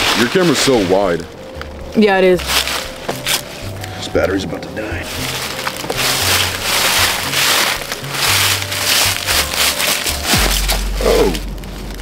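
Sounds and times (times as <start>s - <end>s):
footsteps crunching through dry leaves: 0.0s - 4.0s, 4.7s - 12.0s
background music with deep bass: 0.0s - 12.0s.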